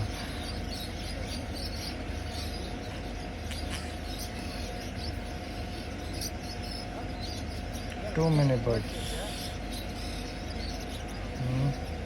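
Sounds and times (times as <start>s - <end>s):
small birds chirping: 0.0s - 12.0s
steady background hum: 0.0s - 12.0s.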